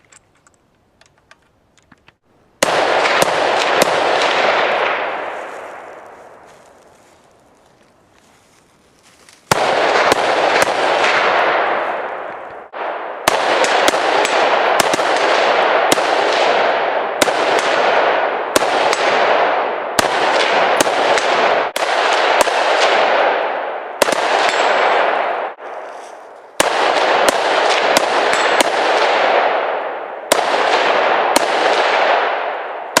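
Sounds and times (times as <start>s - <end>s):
rifle shots with echo: 2.6s - 7.1s, 9.4s - 33.0s.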